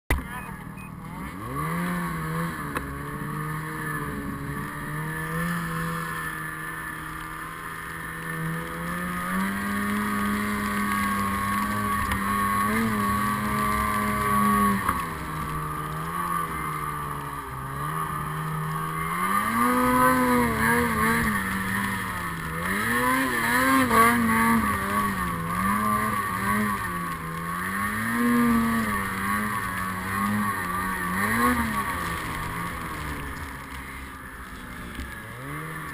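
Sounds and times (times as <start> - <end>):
snowmobile engine: 0.1 - 35.9
sled ploughing through snow: 0.4 - 35.9.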